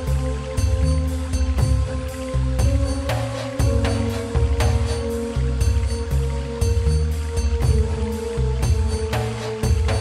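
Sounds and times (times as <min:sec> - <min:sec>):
background music with drums: 0:00.0 - 0:10.0.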